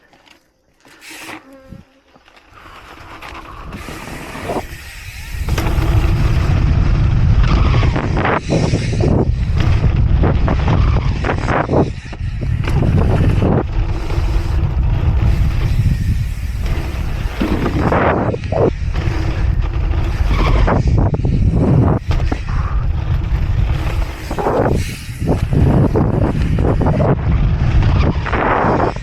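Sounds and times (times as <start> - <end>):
bike tyre rumble on dirt: 0.0 - 29.0
wind buffeting microphone: 3.0 - 29.0.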